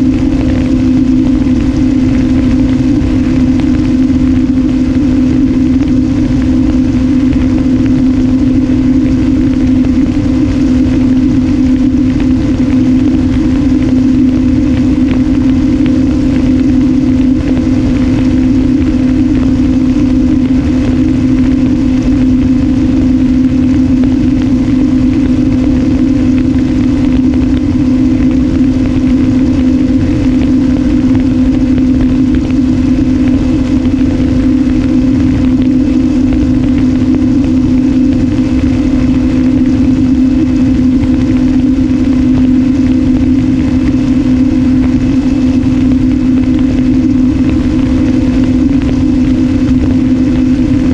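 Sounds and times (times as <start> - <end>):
electric motor and propeller hum: 0.0 - 50.9
wind rumbling on microphone: 0.0 - 50.9.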